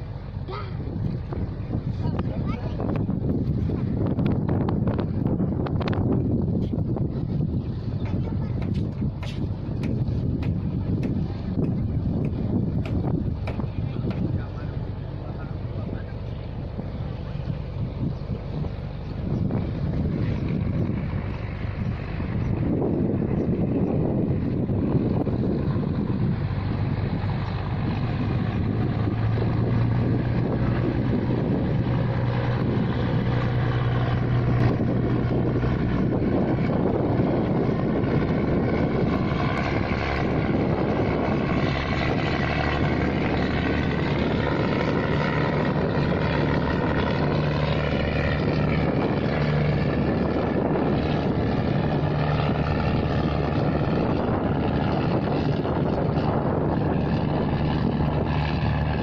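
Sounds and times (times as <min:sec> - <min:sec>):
ferry engine humming: 0:00.0 - 0:59.0.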